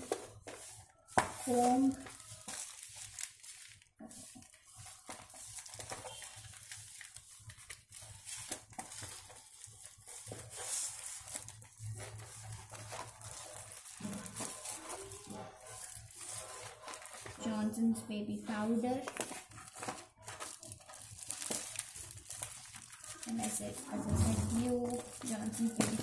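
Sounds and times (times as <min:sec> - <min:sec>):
packaging rustling: 0:00.0 - 0:17.5, 0:18.5 - 0:26.0
plastic wrap crinkling: 0:00.0 - 0:26.0.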